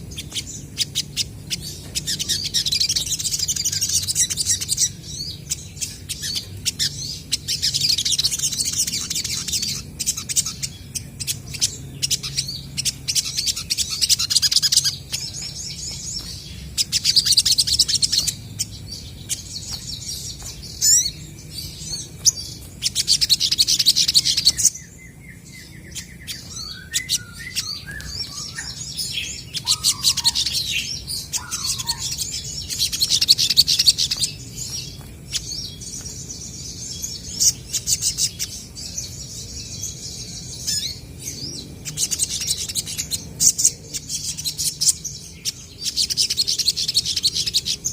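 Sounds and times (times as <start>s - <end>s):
birds chattering trills: 0.0s - 47.9s
lower whistled bird notes: 0.0s - 47.9s.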